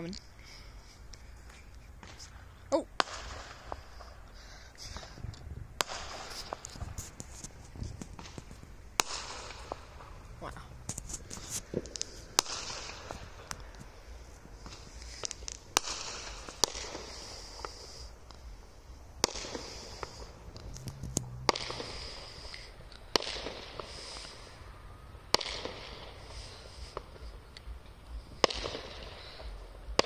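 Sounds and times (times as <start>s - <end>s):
fizzing crackle of fireworks: 0.0s - 30.0s
fireworks bangs: 0.4s - 30.0s.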